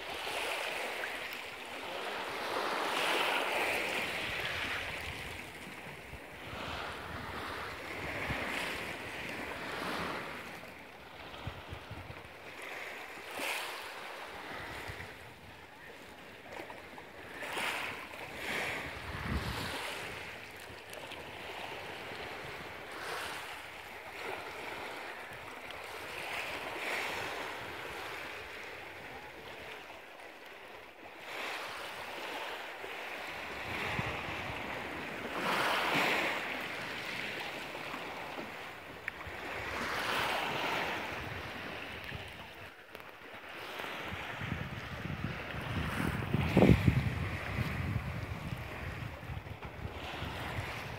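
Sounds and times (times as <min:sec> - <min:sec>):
waves lapping on pebbles: 0:00.0 - 0:11.5, 0:17.1 - 0:28.6, 0:31.1 - 0:49.2.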